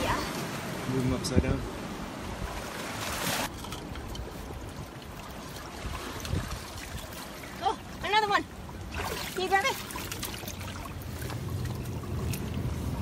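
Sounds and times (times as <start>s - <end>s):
rush of water: 0.0s - 13.0s
water trickling in a tide pool: 0.0s - 13.0s.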